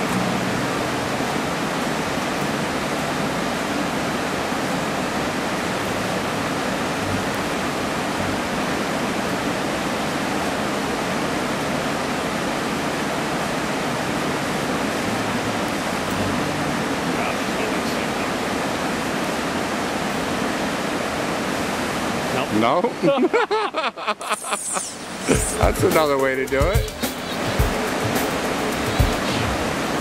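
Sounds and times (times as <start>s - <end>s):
rapids rushing over boulders: 0.0s - 30.0s.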